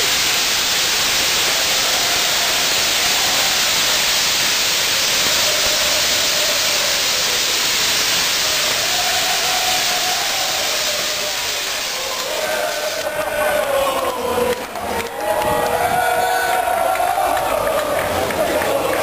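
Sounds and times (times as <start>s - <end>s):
fireworks hissing sparks: 0.0s - 19.0s.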